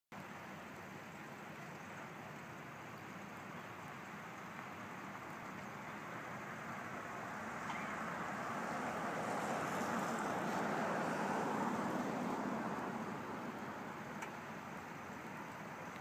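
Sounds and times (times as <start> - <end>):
rain hiss: 0.2 - 16.0
vehicle tyres hissing on wet road: 0.2 - 16.0.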